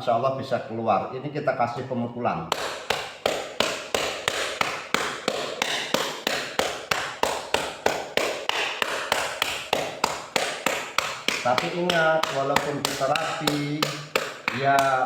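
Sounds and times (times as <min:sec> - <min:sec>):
cupped hand striking a back: 0:02.5 - 0:15.0.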